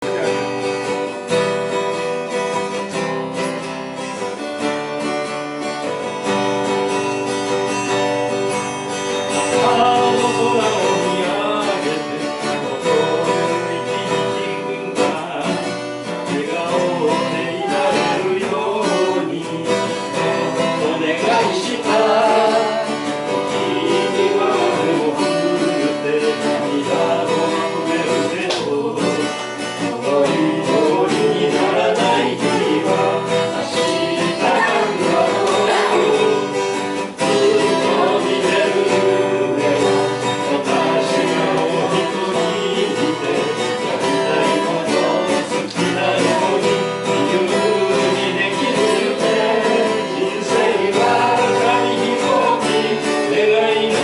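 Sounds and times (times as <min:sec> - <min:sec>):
acoustic guitar playing: 0:00.0 - 0:54.0
person singing: 0:08.9 - 0:54.0.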